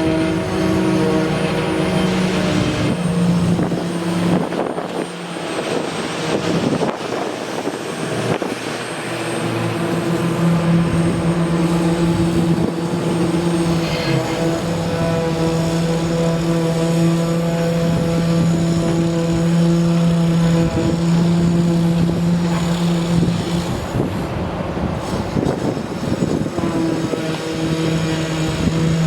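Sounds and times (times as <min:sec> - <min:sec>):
steady engine hum: 0:00.0 - 0:29.0.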